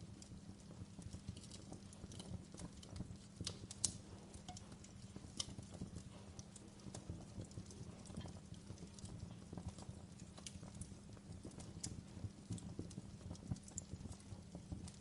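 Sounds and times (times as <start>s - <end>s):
logs crackling in fireplace: 0.0s - 15.0s
low rumble of flame: 0.0s - 15.0s.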